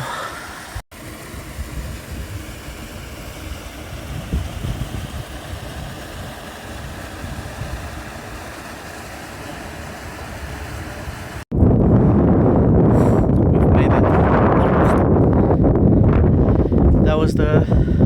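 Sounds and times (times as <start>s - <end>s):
wind buffeting microphone: 0.7s - 18.0s.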